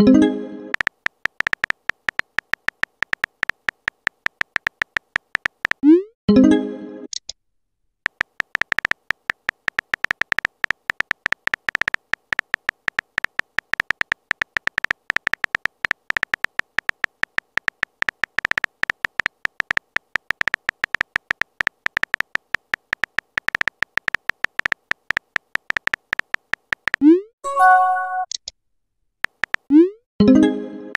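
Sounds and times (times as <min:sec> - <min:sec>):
synthetic keyboard clicks: 0:00.7 - 0:06.0, 0:08.0 - 0:28.6, 0:29.2 - 0:30.0.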